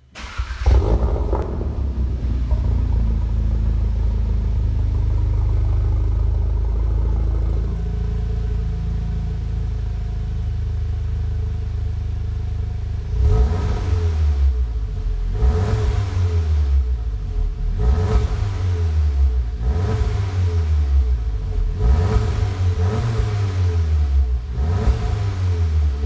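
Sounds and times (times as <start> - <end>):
car engine idling: 0.0 - 26.0
engine revving: 0.2 - 9.5, 13.0 - 26.0.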